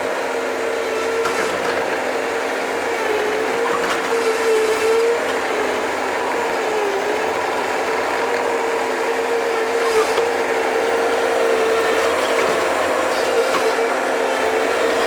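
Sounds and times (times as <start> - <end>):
digger engine running: 0.0 - 15.0.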